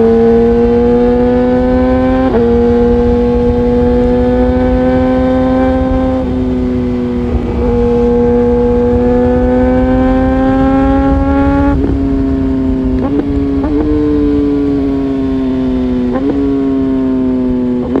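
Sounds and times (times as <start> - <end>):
motorcycle engine at high revs: 0.0 - 18.0
wind rumble on microphone: 0.0 - 18.0.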